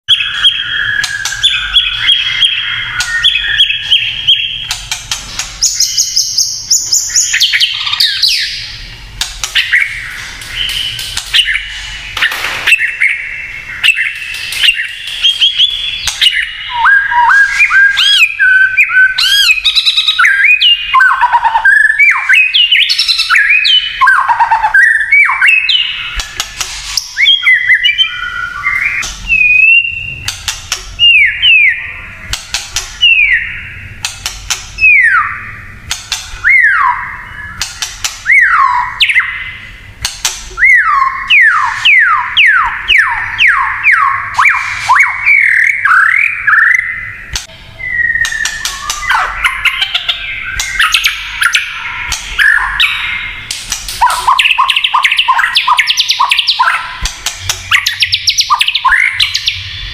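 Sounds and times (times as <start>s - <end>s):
bird whistling song: 0.0s - 34.1s, 34.8s - 35.8s, 36.4s - 39.8s, 40.6s - 59.9s.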